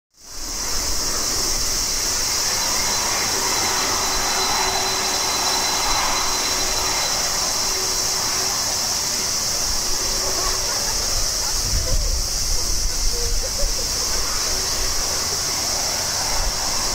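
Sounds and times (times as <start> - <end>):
jet engines whining: 0.2 - 16.9.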